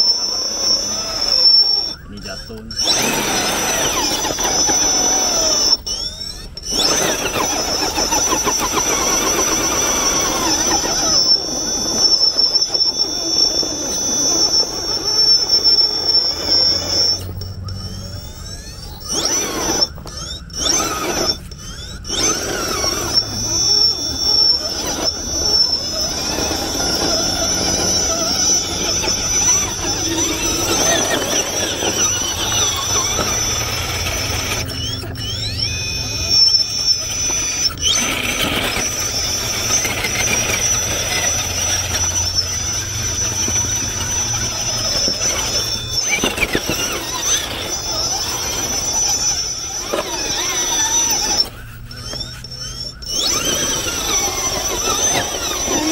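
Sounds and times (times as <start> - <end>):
steady high-pitched whine: 0.0 - 55.9
toy car electric motor whining: 0.0 - 55.9.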